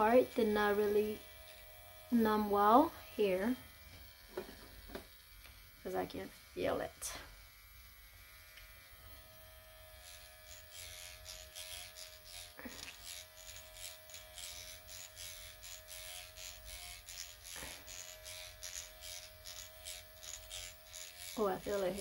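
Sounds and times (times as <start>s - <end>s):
electric pen motor hum: 0.0s - 22.0s
rapid scratchy strokes on skin: 0.0s - 22.0s.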